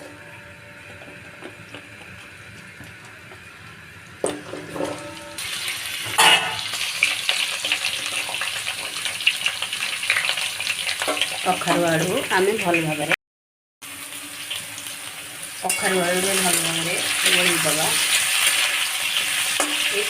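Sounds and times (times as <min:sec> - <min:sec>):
food sizzling in hot oil: 0:01.3 - 0:13.0, 0:13.8 - 0:20.0.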